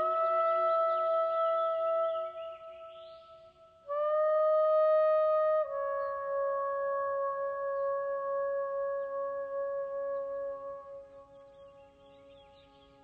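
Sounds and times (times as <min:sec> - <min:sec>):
wind instrument holding a note: 0:00.0 - 0:11.5.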